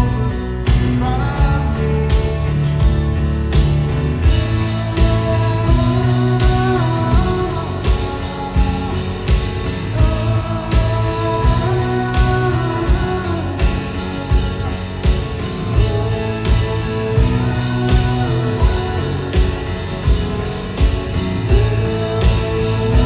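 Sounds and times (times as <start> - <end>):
person singing: 0.0 - 3.1, 4.3 - 23.0
drum beat: 0.0 - 23.0
guitars: 0.0 - 23.0.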